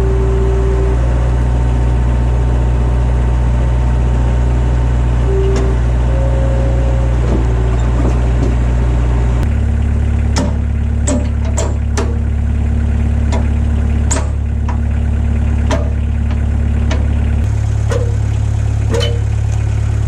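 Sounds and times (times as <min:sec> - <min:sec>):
skid steer engine idling: 0:00.0 - 0:20.0.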